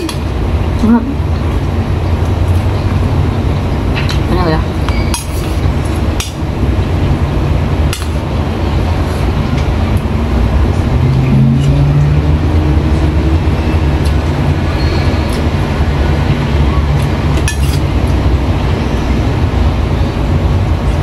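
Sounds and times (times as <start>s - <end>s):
low background rumble: 0.0s - 21.0s
low hum: 0.0s - 21.0s.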